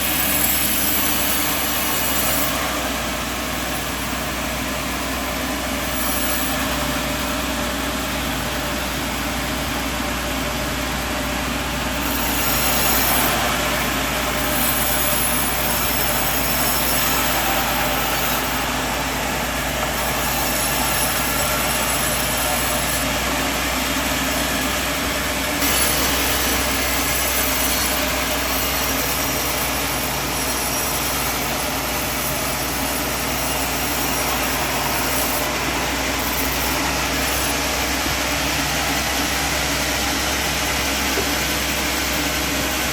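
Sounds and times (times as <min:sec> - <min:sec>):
saw high whine: 0:00.0 - 0:42.9
sawmill low hum: 0:00.0 - 0:42.9.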